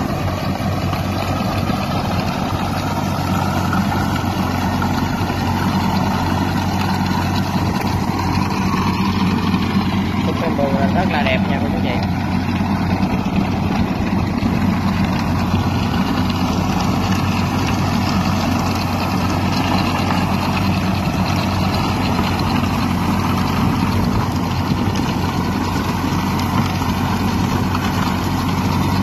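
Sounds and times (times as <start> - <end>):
rotary disc cutting soil: 0.0 - 29.0
tractor engine running under load: 0.0 - 29.0.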